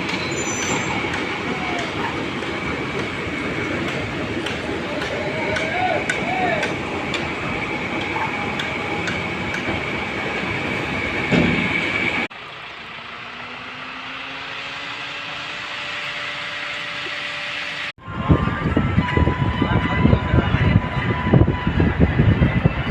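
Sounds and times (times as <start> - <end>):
engine hum rising in pitch: 0.0 - 22.9
machinery noise with high whine: 0.0 - 22.9.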